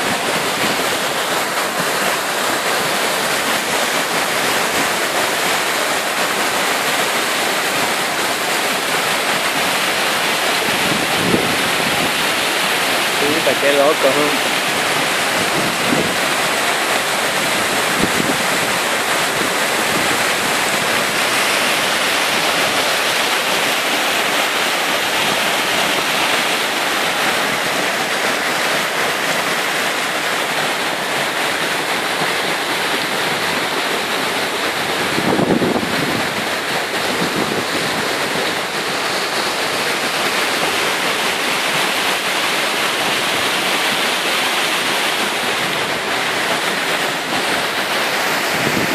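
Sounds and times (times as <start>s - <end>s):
waterfall rushing and splashing: 0.0s - 48.9s.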